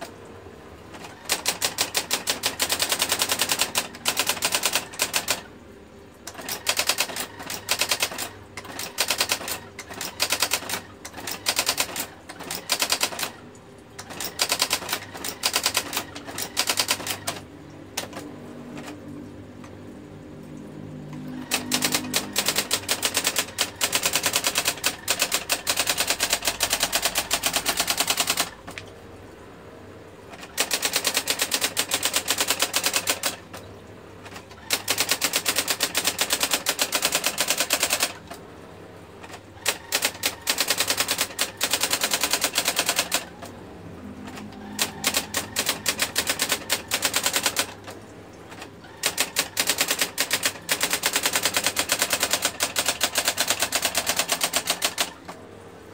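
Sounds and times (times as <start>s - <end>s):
electric typewriter strikes: 0.9s - 5.5s, 6.2s - 19.8s, 21.0s - 28.9s, 30.3s - 38.4s, 39.2s - 55.4s.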